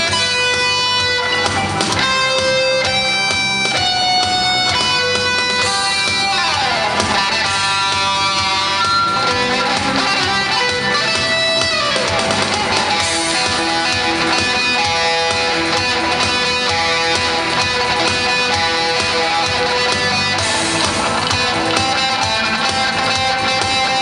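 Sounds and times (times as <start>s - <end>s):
electric guitar lead: 0.0s - 24.0s
rock backing track: 0.0s - 24.0s.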